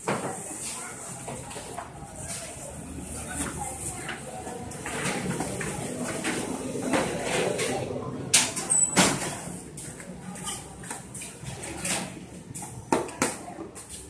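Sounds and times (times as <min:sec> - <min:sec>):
faint background voices: 0:00.0 - 0:14.0.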